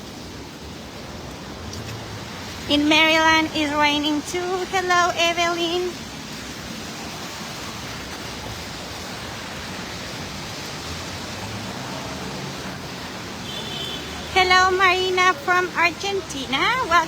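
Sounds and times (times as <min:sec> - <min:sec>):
heavy rain on a street: 0:00.0 - 0:17.0.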